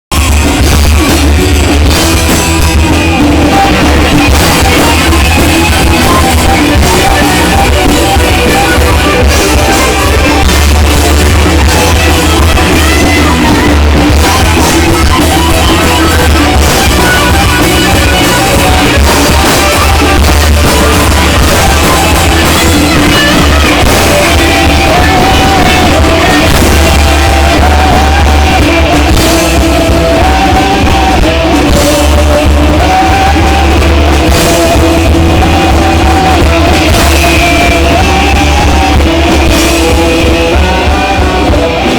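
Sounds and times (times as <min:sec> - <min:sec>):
drums: 0:00.0 - 0:41.9
guitar: 0:00.0 - 0:41.9
heavy steady bass: 0:00.1 - 0:41.9
person singing: 0:00.1 - 0:41.9.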